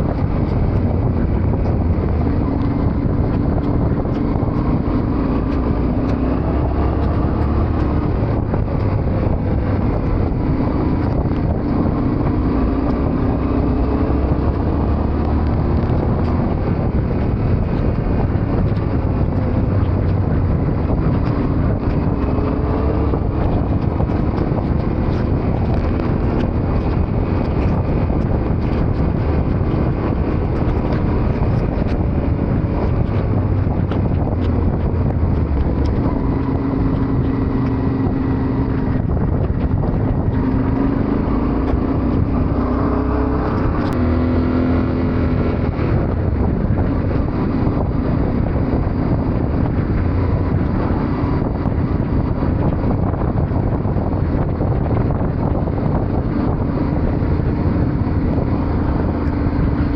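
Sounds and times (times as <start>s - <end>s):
motorcycle engine running: 0.0s - 59.9s
wind on microphone: 0.0s - 59.9s.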